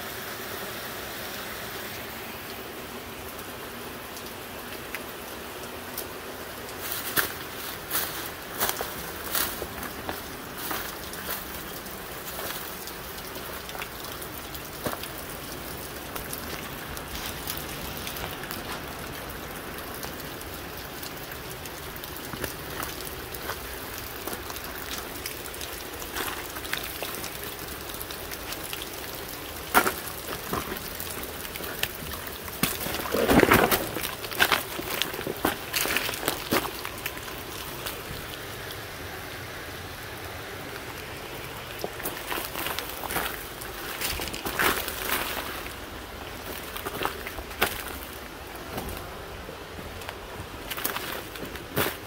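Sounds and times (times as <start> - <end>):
water drips and ticks: 2.3 - 52.0.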